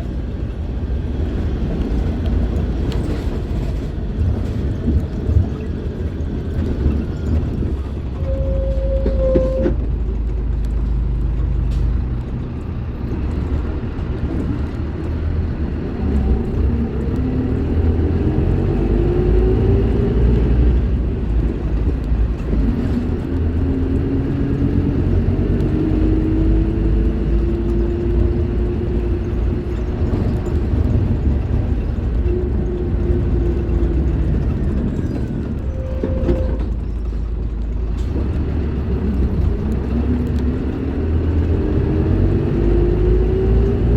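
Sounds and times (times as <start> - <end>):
bus diesel engine accelerating: 0.0 - 43.9.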